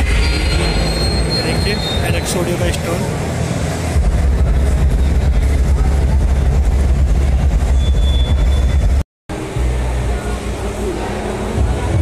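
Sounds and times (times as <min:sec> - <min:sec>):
deep bass from loudspeakers: 0:00.0 - 0:12.0.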